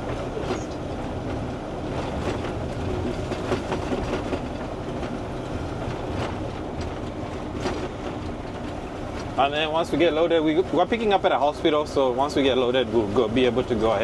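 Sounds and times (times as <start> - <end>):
cab rattles and clicks: 0.0 - 11.7
truck engine and road rumble: 0.0 - 14.0.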